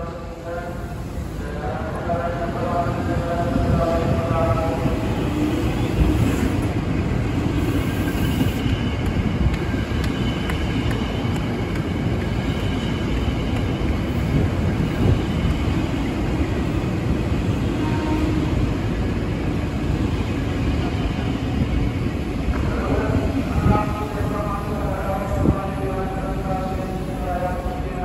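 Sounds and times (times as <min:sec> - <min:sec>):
electric train running past: 0:00.0 - 0:28.0.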